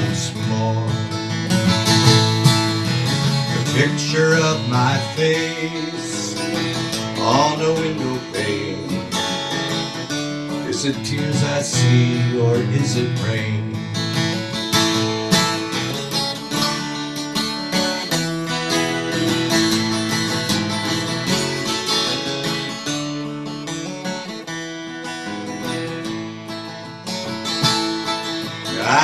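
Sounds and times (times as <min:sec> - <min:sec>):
acoustic guitar picked and strummed: 0:00.0 - 0:29.0.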